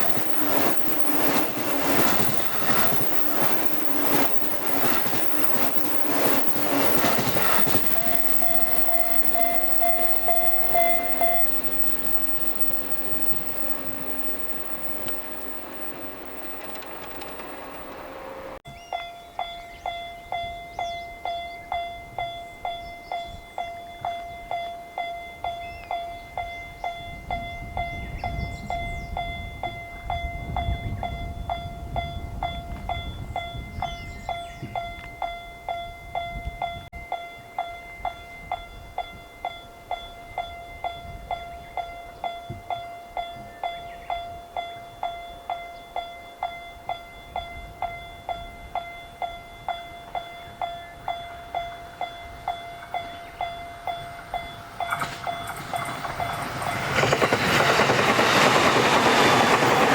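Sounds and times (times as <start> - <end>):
railroad crossing alarm ringing: 0.0 - 59.9.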